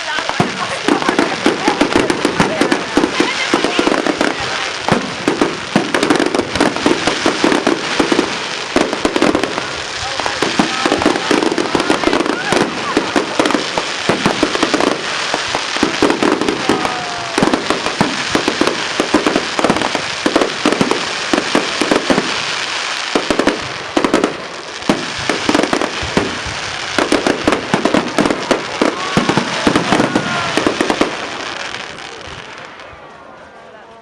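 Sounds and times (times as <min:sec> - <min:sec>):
fireworks banging and crackling: 0:00.0 - 0:34.0.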